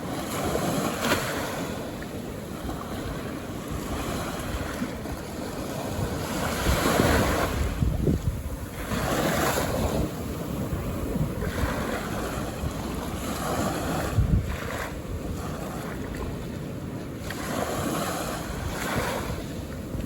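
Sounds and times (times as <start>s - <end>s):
ocean waves washing onto beach: 0.0s - 20.0s
wind buffeting microphone: 0.0s - 20.0s.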